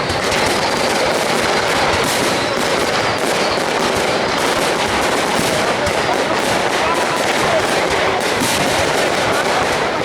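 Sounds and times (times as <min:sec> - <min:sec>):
aerial fireworks crackling bangs: 0:00.0 - 0:10.0.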